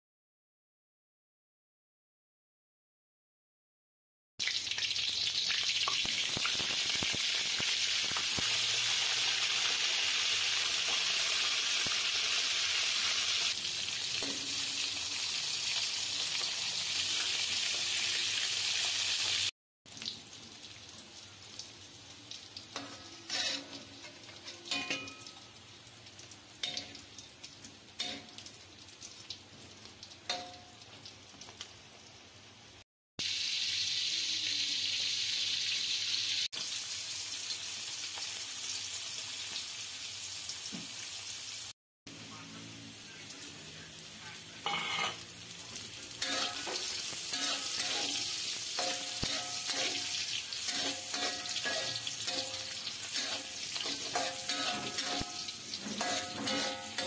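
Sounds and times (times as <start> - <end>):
fish deep-frying in oil: 4.4 - 57.0.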